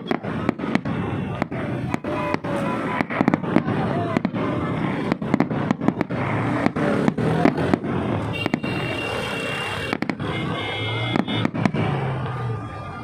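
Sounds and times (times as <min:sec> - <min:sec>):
fireworks bangs and pops: 0:00.0 - 0:12.6
dense background din: 0:00.0 - 0:13.0.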